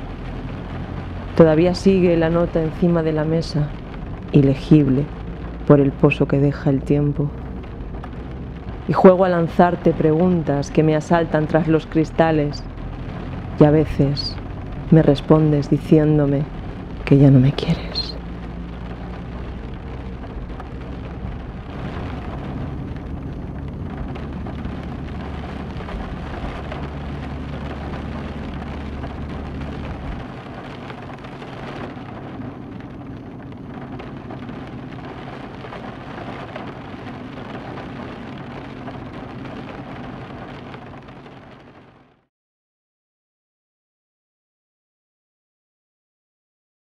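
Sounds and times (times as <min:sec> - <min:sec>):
low rumble: 0:00.0 - 0:41.9
steady rain: 0:00.0 - 0:42.3.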